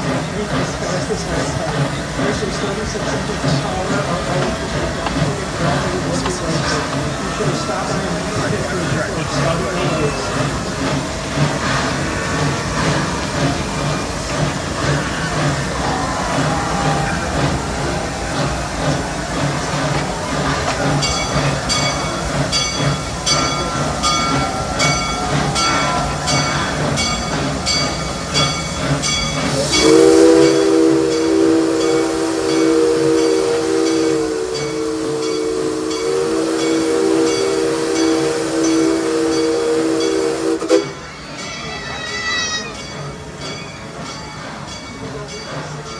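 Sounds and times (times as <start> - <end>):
steam locomotive hissing: 0.0 - 45.9
locomotive bell ringing: 0.1 - 45.9.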